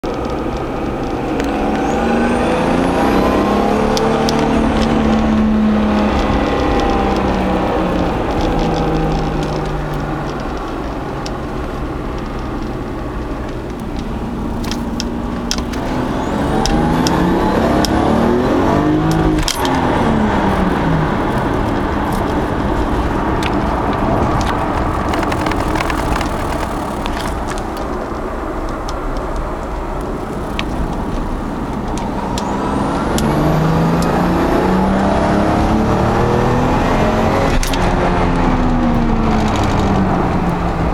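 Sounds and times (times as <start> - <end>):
car engine accelerating hard: 0.0 - 40.9.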